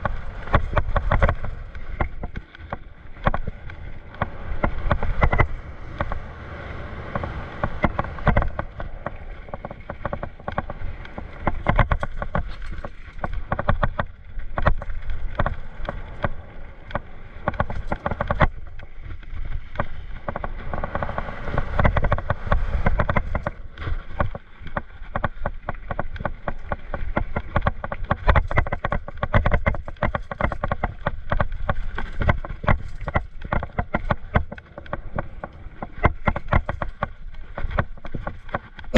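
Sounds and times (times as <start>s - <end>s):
bike rattling over bumps: 0.0s - 38.9s
bike tyres rumbling over dirt: 0.0s - 38.9s.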